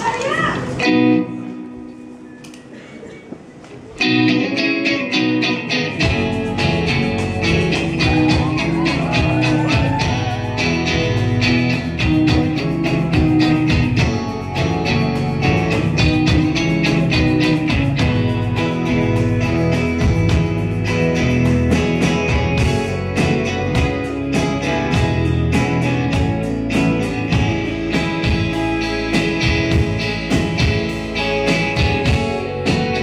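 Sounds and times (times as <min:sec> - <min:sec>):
bass guitar: 0:00.0 - 0:02.1, 0:04.0 - 0:33.0
drums: 0:00.0 - 0:33.0
electric guitar strumming: 0:00.1 - 0:02.2, 0:04.0 - 0:33.0.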